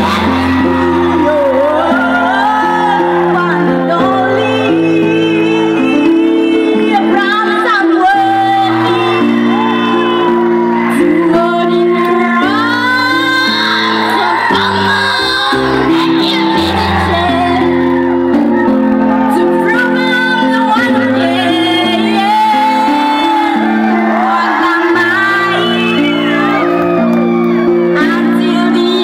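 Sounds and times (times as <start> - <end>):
woman singing: 0.0 - 10.0, 10.9 - 18.5, 19.3 - 23.7, 24.3 - 26.8, 27.8 - 29.0
electronic keyboard chords: 0.0 - 29.0.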